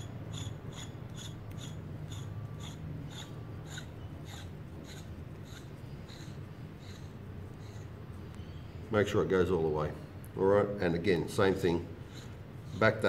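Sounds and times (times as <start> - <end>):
metal threads rubbing: 0.0 - 8.8, 11.3 - 13.0
steady low hum: 0.0 - 13.0.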